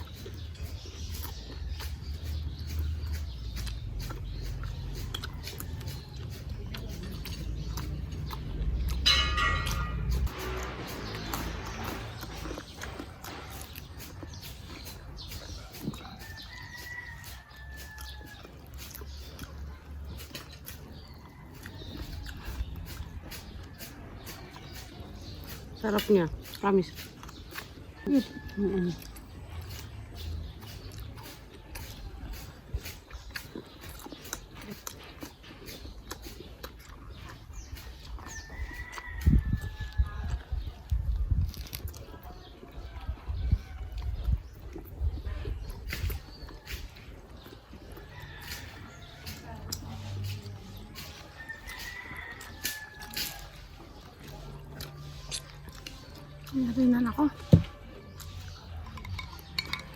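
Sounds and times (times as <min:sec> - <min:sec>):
crunching and chewing crispy food: 0:00.0 - 0:59.9.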